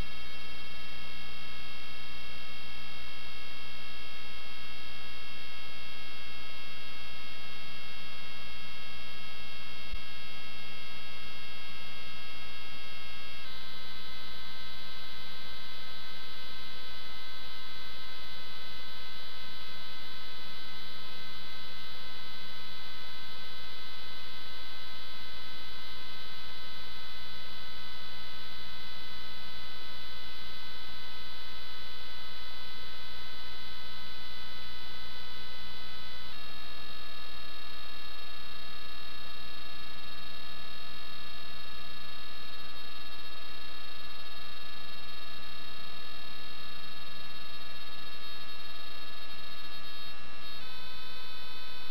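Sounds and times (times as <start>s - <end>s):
electrical hum: 0.0s - 51.9s.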